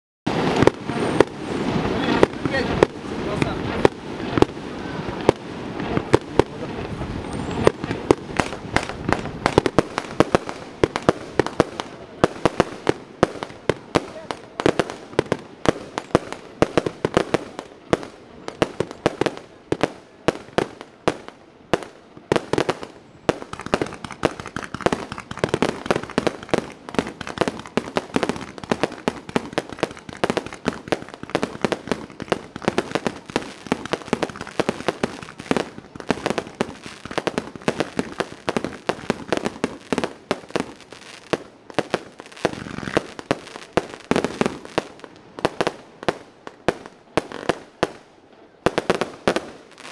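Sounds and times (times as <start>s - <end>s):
fireworks popping and banging: 0.3s - 49.9s.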